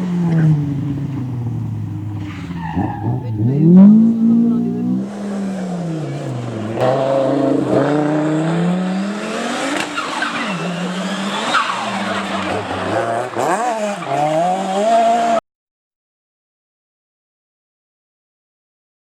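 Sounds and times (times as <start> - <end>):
rally car engine revving: 0.0 - 15.4.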